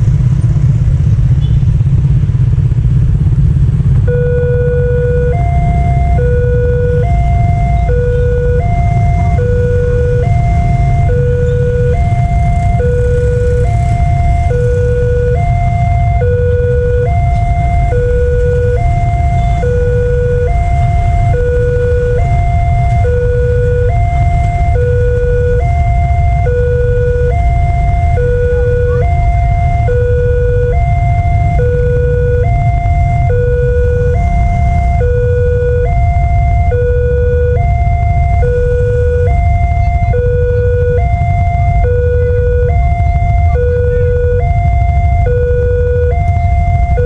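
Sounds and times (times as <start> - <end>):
steady low rumble: 0.0 - 47.0
level crossing two-tone siren: 3.9 - 47.0.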